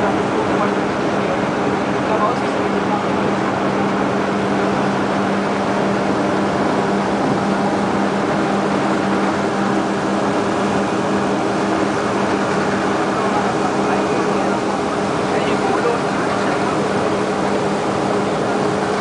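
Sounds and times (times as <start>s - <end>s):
ship engine humming: 0.0s - 19.0s
water churning in wake: 0.0s - 19.0s.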